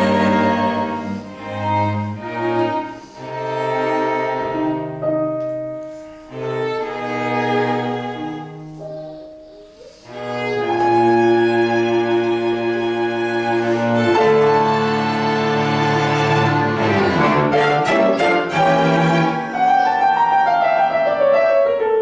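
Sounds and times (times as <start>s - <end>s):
violin and cello bowing: 0.0s - 21.1s
piano quartet playing: 0.0s - 22.0s.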